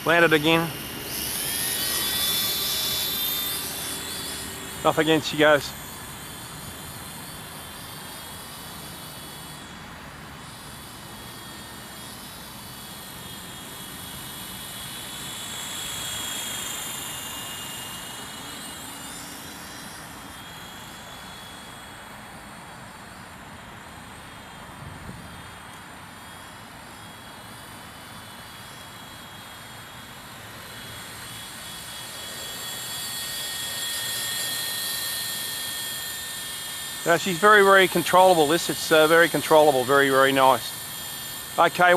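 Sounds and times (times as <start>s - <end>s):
rc helicopter rotor whine: 0.0s - 41.9s.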